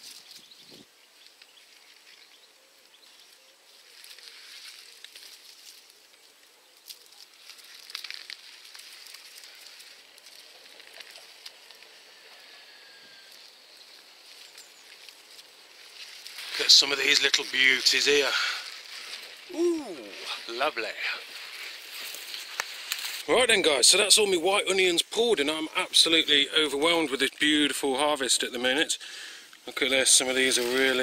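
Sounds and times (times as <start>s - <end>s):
onion foliage rustling and crackling: 1.2s - 27.8s, 29.7s - 31.0s.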